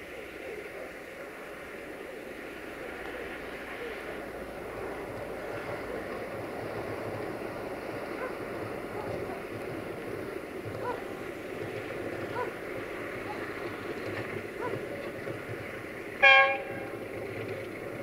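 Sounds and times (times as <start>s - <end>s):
distant locomotive engine rumble: 0.0s - 18.0s.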